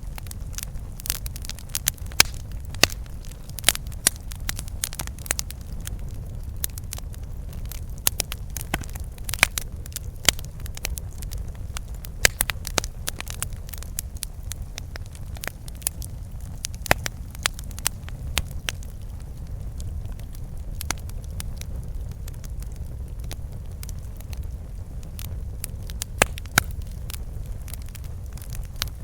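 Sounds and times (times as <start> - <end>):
campfire crackling and popping: 0.0 - 29.0
steady low rumble: 0.0 - 29.0.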